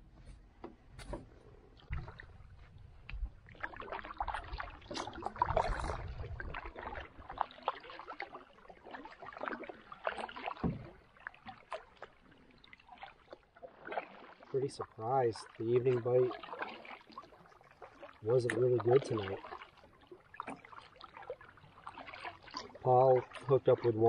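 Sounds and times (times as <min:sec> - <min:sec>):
paddle gurgling through water: 0:01.6 - 0:24.0.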